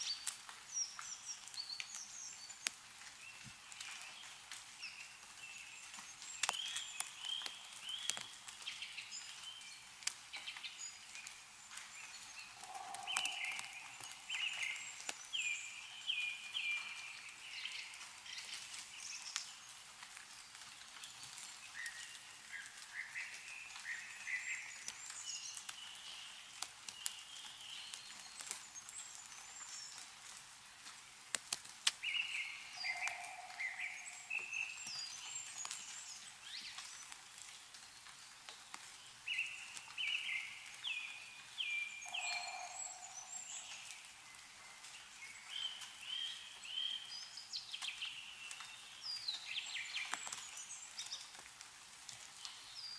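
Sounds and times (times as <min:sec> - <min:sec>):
songbirds singing: 0:00.0 - 0:30.3, 0:31.9 - 0:51.4
meltwater dripping: 0:00.0 - 0:52.9.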